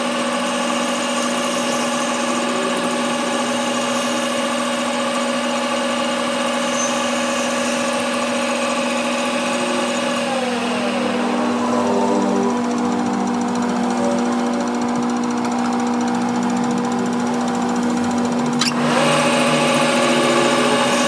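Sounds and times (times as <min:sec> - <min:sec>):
workshop machine motor hum: 0:00.0 - 0:21.0.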